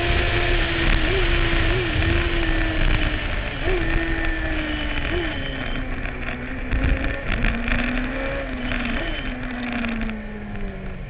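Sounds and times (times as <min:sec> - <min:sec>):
racing engine running hard: 0:00.0 - 0:11.0
wind noise: 0:00.0 - 0:11.0.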